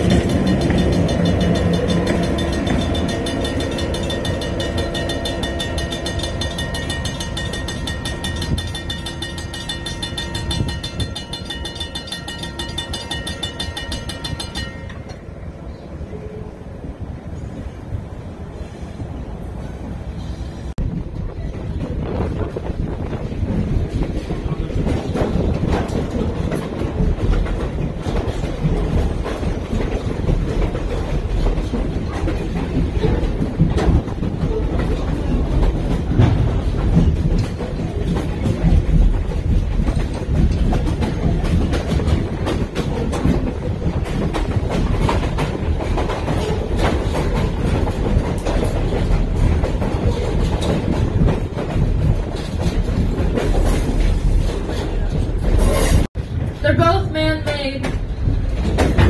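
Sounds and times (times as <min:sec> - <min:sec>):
wheels clicking over rail joints: 0:00.0 - 0:15.8, 0:21.1 - 0:59.0
train wheels rumbling on track: 0:00.0 - 0:59.0.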